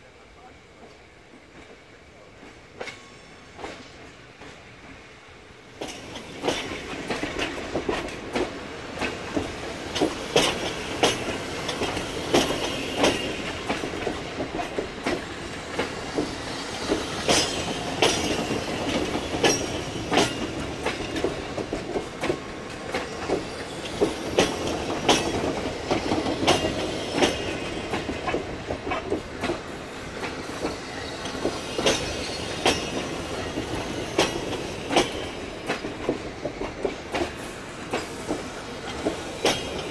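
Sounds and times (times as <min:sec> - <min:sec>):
train rumble: 0:00.0 - 0:39.9
train wheels clacking over rail joints: 0:05.8 - 0:39.9.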